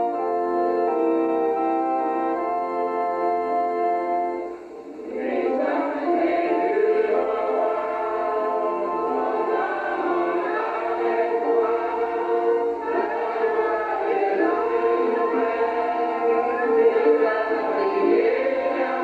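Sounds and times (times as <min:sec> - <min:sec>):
choir singing: 0:00.0 - 0:19.0
held instrumental chords: 0:00.0 - 0:19.0.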